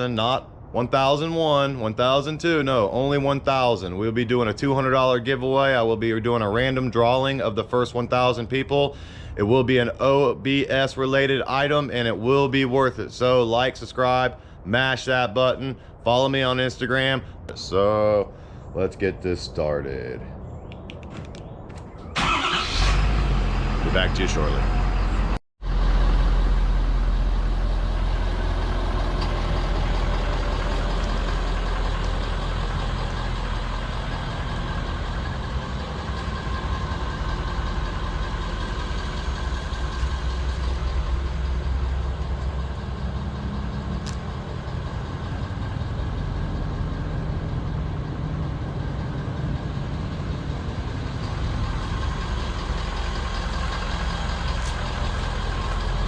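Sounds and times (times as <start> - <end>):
truck engine deep hum: 0.0 - 56.0.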